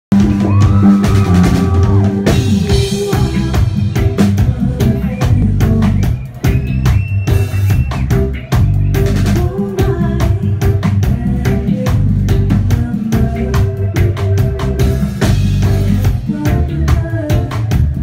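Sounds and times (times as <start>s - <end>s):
bass guitar line: 0.0s - 18.0s
reggae band playing: 0.1s - 18.0s.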